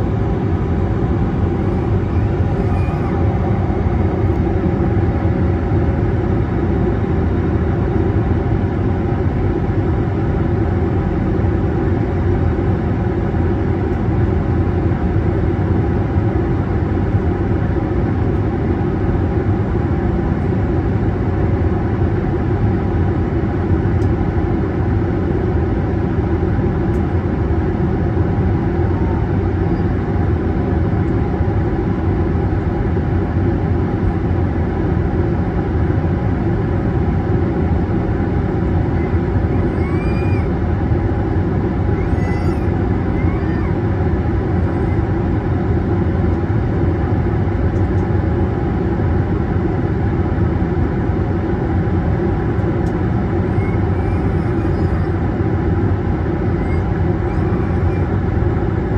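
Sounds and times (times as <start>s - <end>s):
airflow over fuselage: 0.0s - 10.9s, 21.9s - 58.9s
jet engines drone in cabin: 0.0s - 58.9s.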